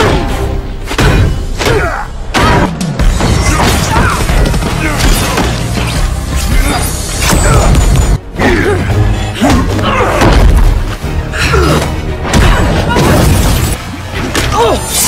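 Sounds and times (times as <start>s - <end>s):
loud action film score: 0.0s - 15.0s.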